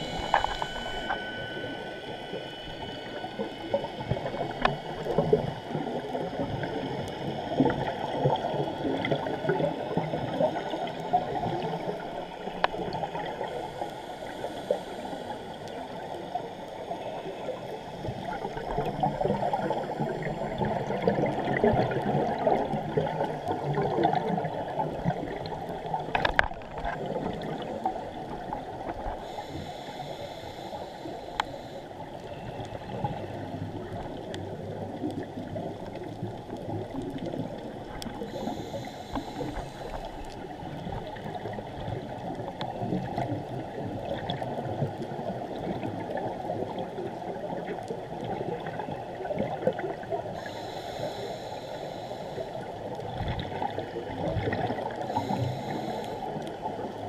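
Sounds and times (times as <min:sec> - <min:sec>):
muffled underwater noise: 0:00.0 - 0:57.0.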